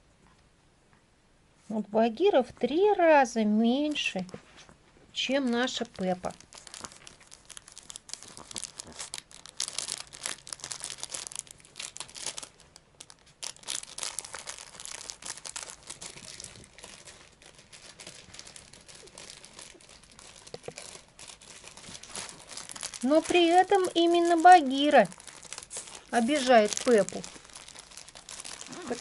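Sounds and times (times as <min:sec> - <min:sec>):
plastic wrappers crackling: 0:05.2 - 0:29.0.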